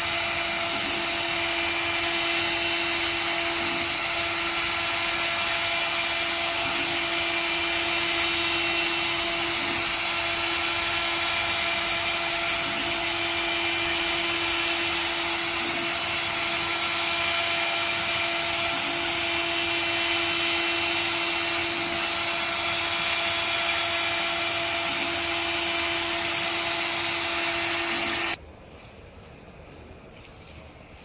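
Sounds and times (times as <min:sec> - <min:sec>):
electric motor whirring hum: 0:00.0 - 0:28.4.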